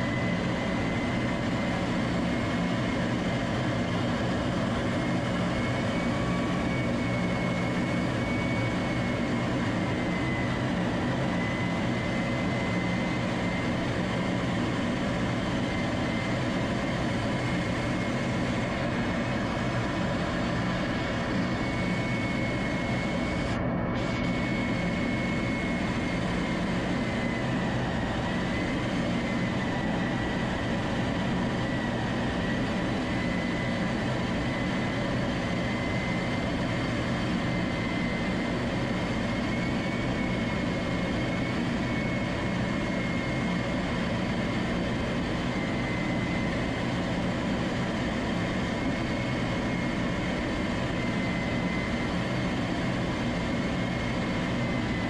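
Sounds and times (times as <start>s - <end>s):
aircraft engine and wind noise: 0.0s - 55.0s.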